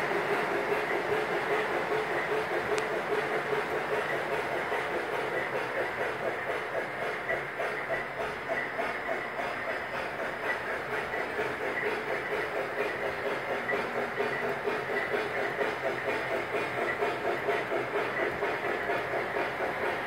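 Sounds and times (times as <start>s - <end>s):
model steam locomotive chuffing: 0.0s - 20.0s
model train hissing: 0.0s - 20.0s
train wheels clickety-clack on track: 0.0s - 20.0s.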